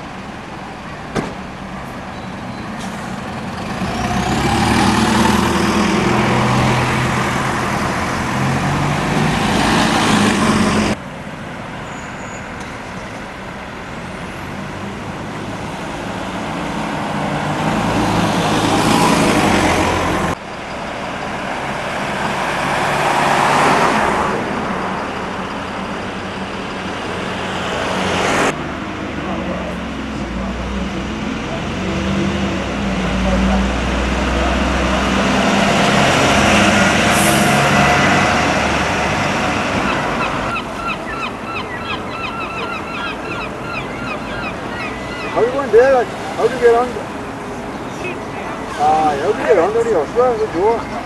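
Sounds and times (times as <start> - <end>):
diesel bus engines passing: 0.0 - 51.0.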